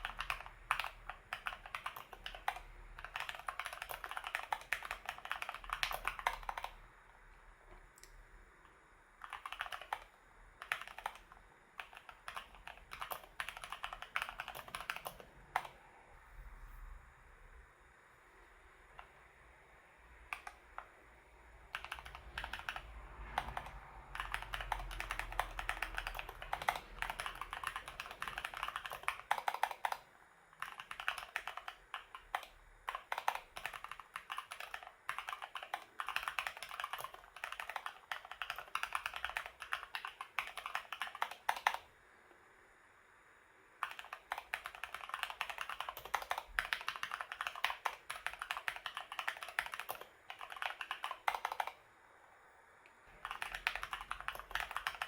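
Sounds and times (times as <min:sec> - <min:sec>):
mechanical keyboard typing: 0:00.0 - 0:06.8, 0:09.2 - 0:15.8, 0:20.3 - 0:20.9, 0:21.6 - 0:41.9, 0:43.8 - 0:51.8, 0:53.1 - 0:55.0.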